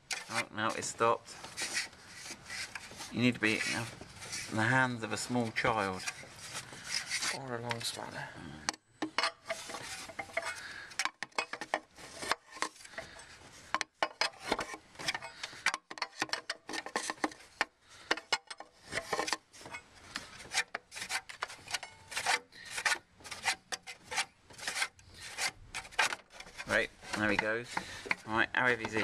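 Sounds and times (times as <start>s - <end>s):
fan scraping and clicking: 0.0s - 8.1s, 9.0s - 29.0s
metal and plastic rubbing: 0.0s - 29.0s.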